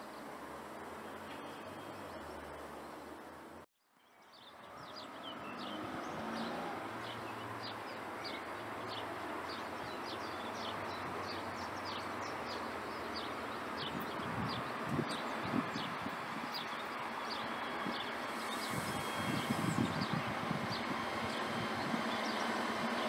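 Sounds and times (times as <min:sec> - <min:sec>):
outdoor background hiss: 0:00.0 - 0:23.0
birds chirping: 0:04.0 - 0:23.0.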